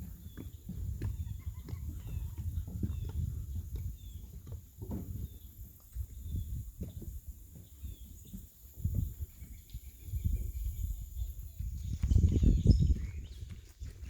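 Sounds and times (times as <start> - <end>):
low rumbling with soft thumps: 0.0 - 14.0.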